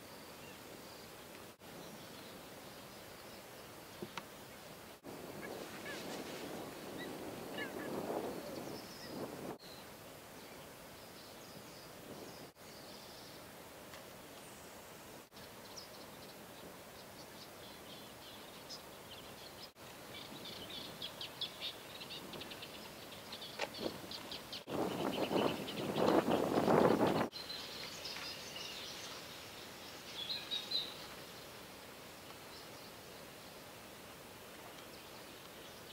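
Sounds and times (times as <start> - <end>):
small birds chirping: 0.0 - 13.6, 14.3 - 35.9
faint outdoor hiss: 0.0 - 35.9.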